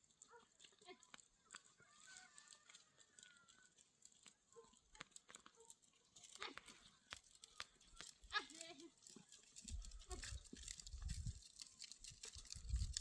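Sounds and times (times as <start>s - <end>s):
scattered clicks: 0.9s - 13.0s.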